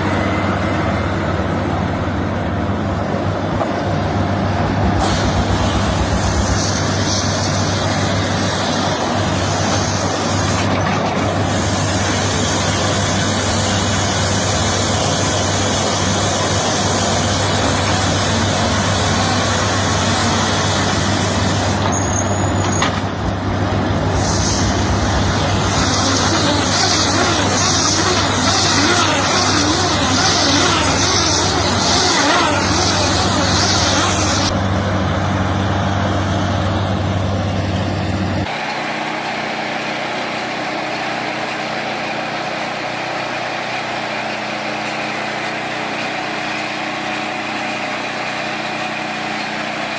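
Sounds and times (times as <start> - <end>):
hay baler working: 0.0 - 49.9
tractor engine running: 0.0 - 49.9.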